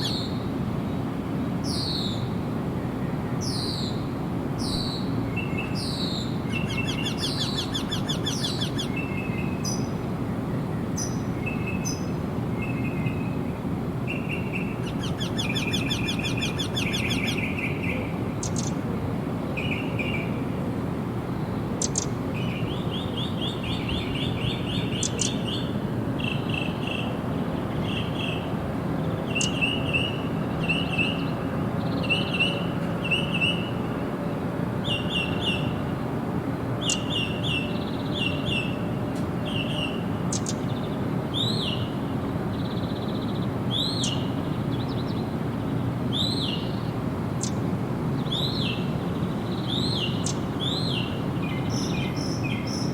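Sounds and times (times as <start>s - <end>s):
songbirds trilling: 0.0s - 52.9s.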